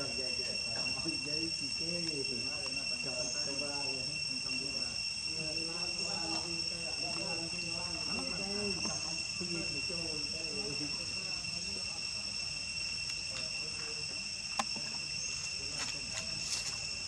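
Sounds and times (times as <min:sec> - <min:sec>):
faint voices talking: 0:00.0 - 0:17.0
insects chirring: 0:00.0 - 0:17.0.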